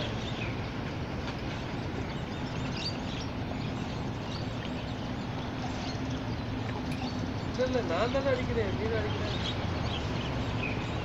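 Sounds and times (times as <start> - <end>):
low steady hum: 0.0 - 11.0
outdoor background noise by water: 0.0 - 11.0.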